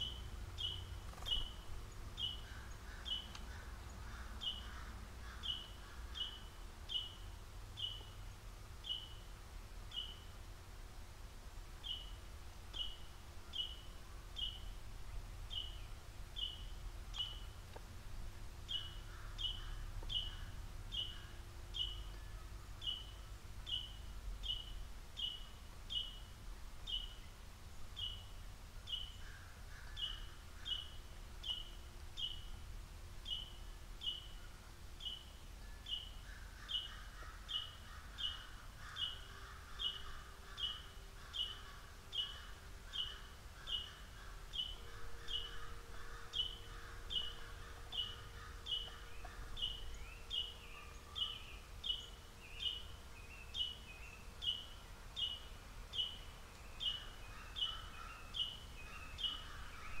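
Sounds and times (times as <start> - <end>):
songbird chip call: 0.0 - 8.2, 8.8 - 9.2, 9.9 - 10.4, 11.8 - 17.6, 18.6 - 27.4, 28.0 - 32.6, 33.2 - 60.0.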